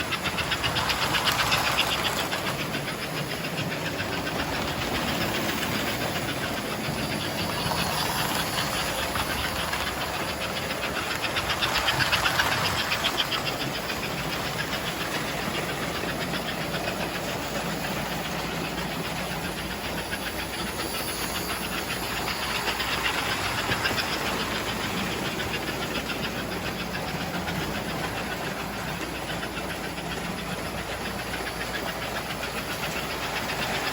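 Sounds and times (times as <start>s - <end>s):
model train running on track: 0.0s - 33.9s.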